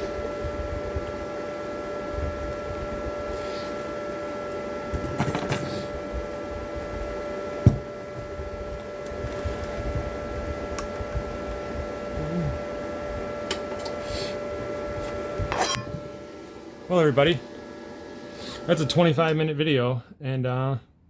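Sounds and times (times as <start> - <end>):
welder whining and buzzing: 0.0 - 19.5.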